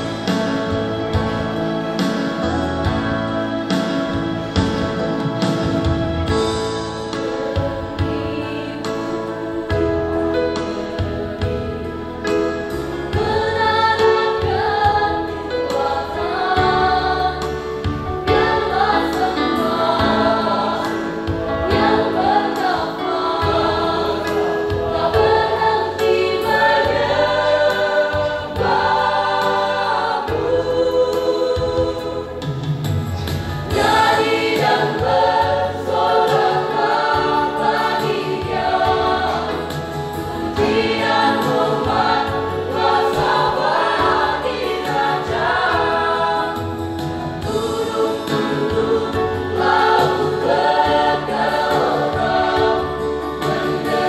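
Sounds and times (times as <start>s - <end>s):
choir singing gospel song: 0.0s - 54.0s.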